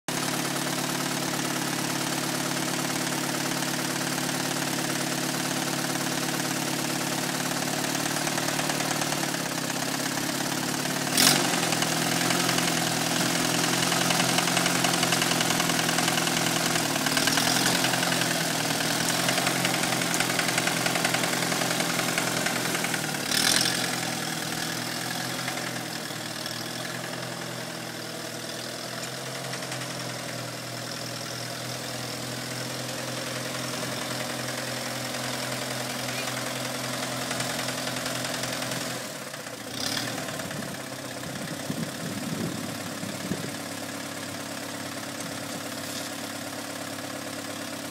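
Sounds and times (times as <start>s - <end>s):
tractor engine running: 0.1s - 47.9s.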